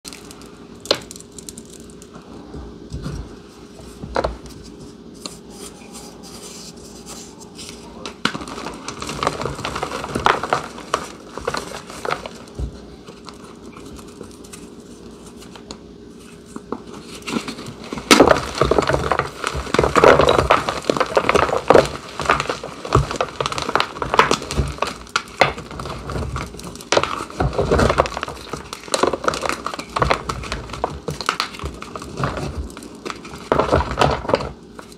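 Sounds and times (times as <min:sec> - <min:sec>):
chalk crunching and crumbling: 0:03.0 - 0:34.9.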